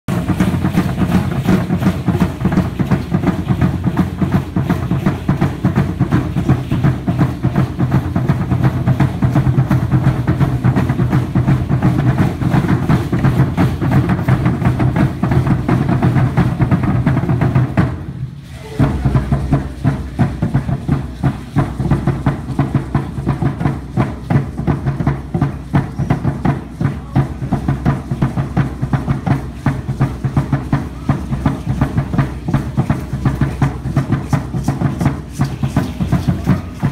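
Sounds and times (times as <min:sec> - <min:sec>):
wooden drum beating fast rhythm: 0:00.1 - 0:36.9.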